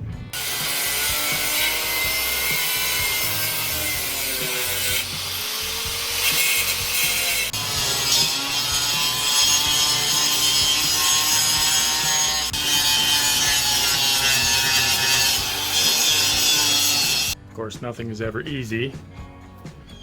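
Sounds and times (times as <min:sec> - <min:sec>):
angle grinder cutting steel: 0:00.3 - 0:17.4.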